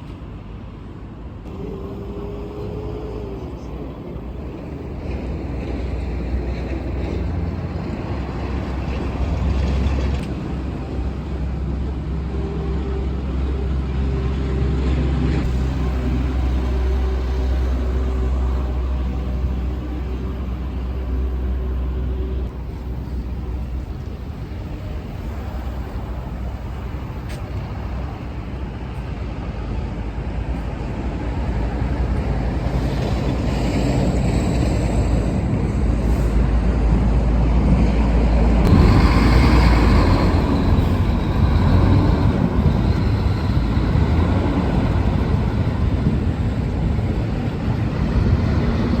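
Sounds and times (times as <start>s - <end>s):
large vehicle engine rumble: 0.0s - 49.0s.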